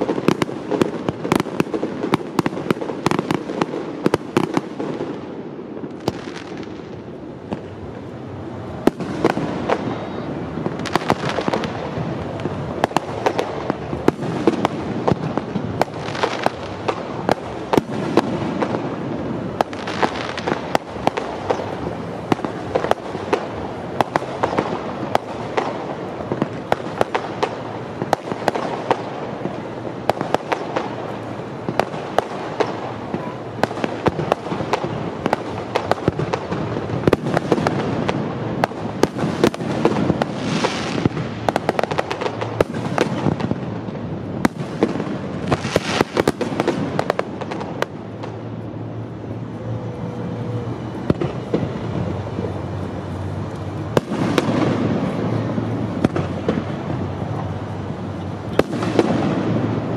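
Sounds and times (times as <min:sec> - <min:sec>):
fireworks bangs: 0:00.0 - 0:59.9
rolling rumble: 0:00.0 - 0:59.9.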